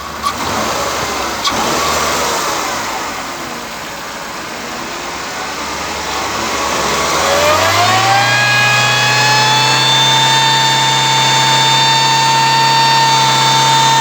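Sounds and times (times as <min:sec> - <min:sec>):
car engine revving: 0:00.0 - 0:14.0
supercharger whine: 0:00.0 - 0:14.0.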